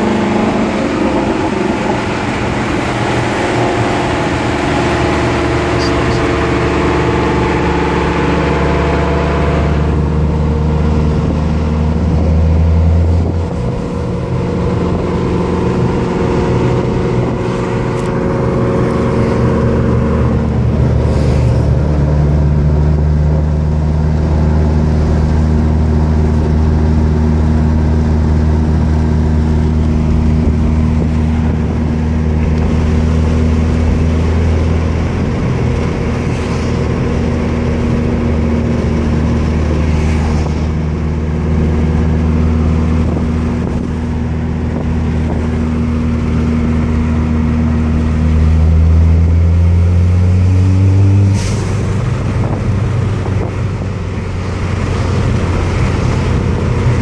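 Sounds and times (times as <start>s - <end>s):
car engine drone from cabin: 0.0s - 57.0s.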